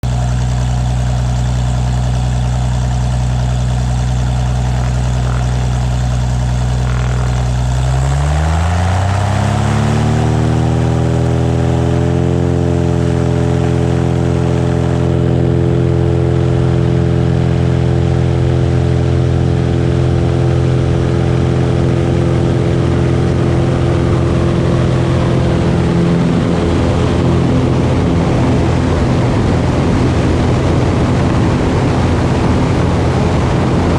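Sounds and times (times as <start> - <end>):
propeller plane engine: 0.0 - 33.9.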